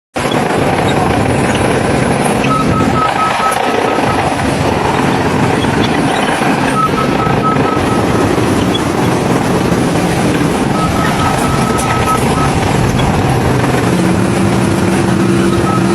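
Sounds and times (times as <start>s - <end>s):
heavy machinery running: 0.2s - 15.9s
reversing alarm beeps: 0.3s - 13.2s, 13.8s - 15.9s.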